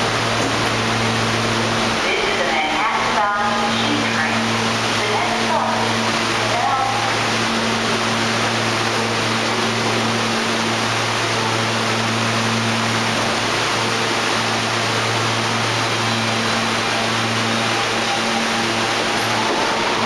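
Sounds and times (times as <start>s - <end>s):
subway train humming and hissing: 0.0s - 20.0s.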